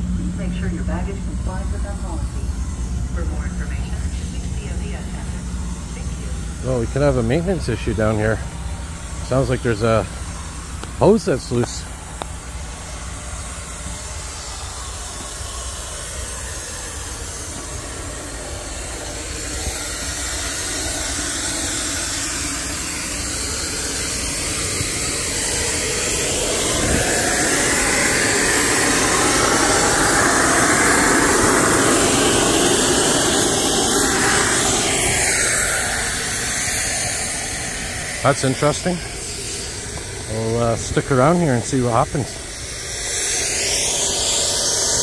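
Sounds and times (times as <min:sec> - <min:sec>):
compressed air hissing: 0:00.0 - 0:45.0
steady low hum: 0:00.0 - 0:45.0.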